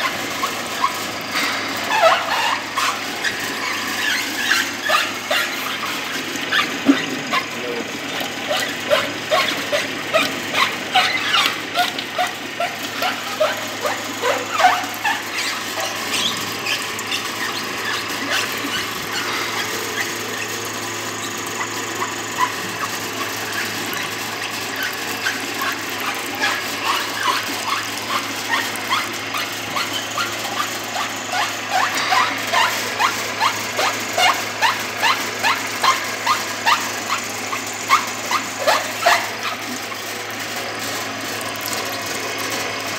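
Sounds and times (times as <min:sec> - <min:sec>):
rhythmic squeak from press: 0:00.0 - 0:40.6
motor hum: 0:00.0 - 0:42.9.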